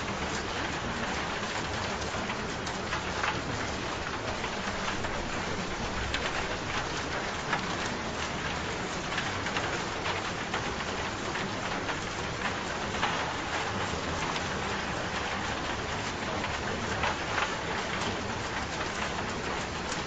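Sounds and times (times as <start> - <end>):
rain drops pattering: 0.0 - 20.0.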